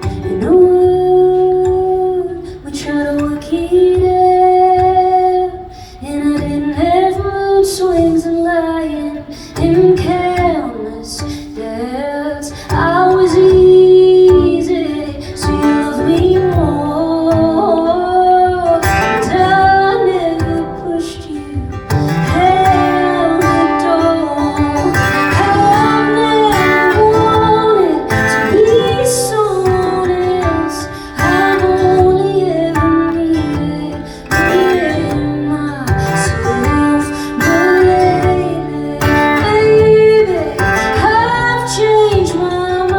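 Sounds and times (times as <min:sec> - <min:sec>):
strummed acoustic guitar: 0:00.0 - 0:42.9
woman singing: 0:00.0 - 0:42.9.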